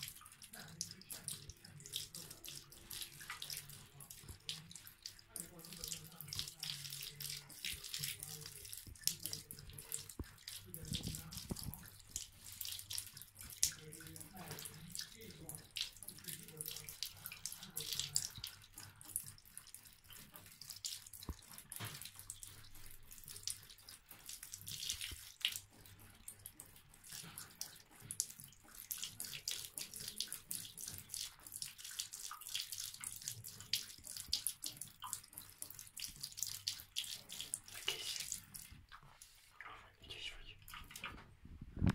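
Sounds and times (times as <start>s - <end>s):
cat lapping water: 0.0s - 41.9s
tap water trickling into tub: 0.0s - 41.9s.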